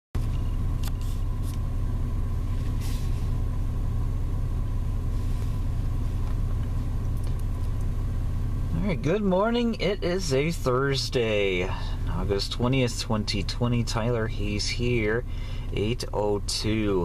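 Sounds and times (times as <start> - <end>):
car engine idling: 0.2 - 17.0.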